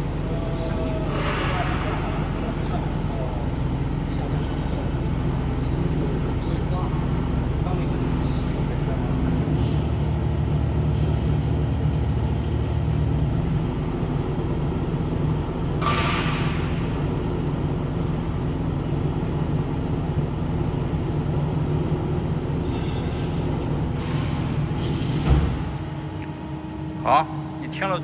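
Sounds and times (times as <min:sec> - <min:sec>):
band saw motor hum: 0:00.0 - 0:28.0.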